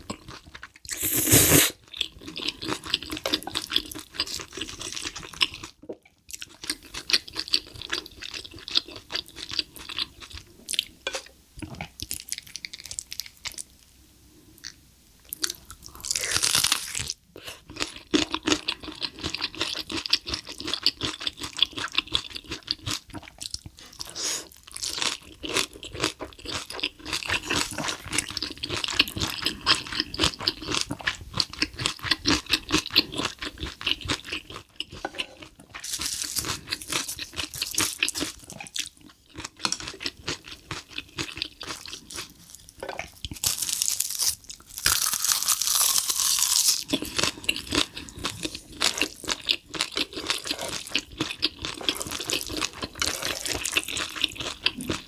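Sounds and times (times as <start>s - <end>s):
wet chewing and crunching: 1.8s - 10.9s, 14.6s - 55.0s.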